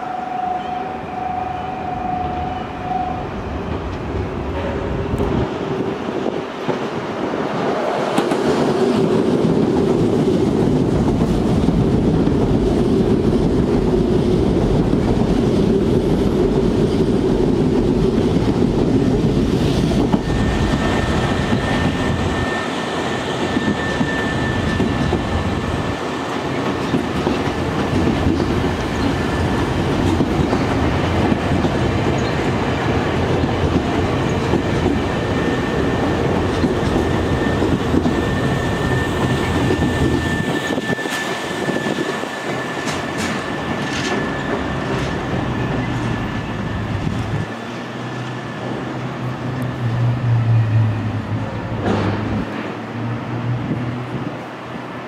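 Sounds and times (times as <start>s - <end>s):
electric train passing at speed: 0.0s - 55.0s.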